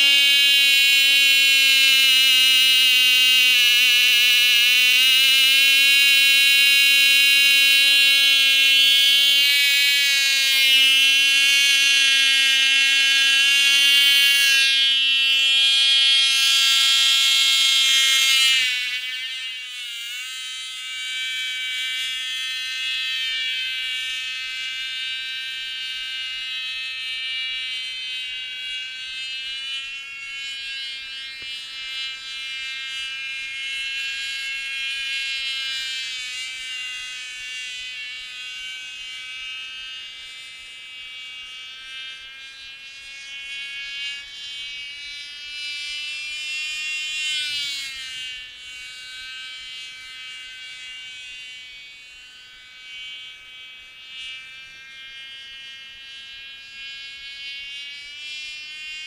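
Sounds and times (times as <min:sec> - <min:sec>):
model plane engine whine: 0:00.0 - 0:59.0.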